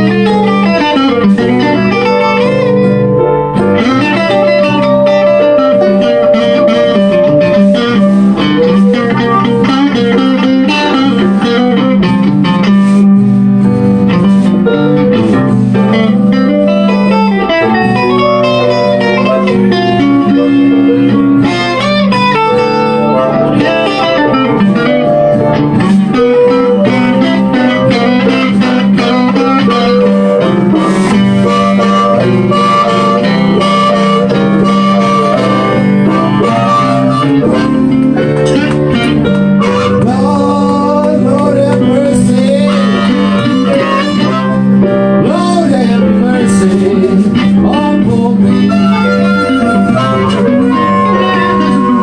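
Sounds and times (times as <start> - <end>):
electric guitar blues: 0.0 - 52.0.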